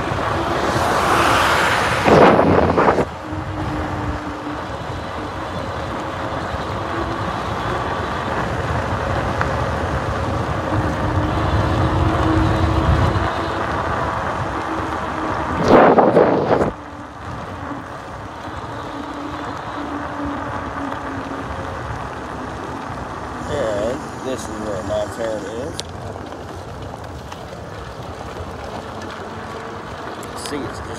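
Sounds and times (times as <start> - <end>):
loud rush of noise: 0.0 - 27.2
motorcycle engine running: 0.0 - 30.9
wind rushing over microphone: 0.0 - 30.9.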